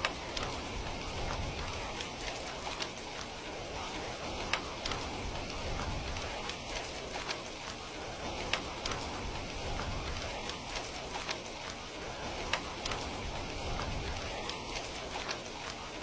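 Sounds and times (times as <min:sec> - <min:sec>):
heavy rain falling: 0:00.0 - 0:16.0
raindrops ticking: 0:00.0 - 0:16.0.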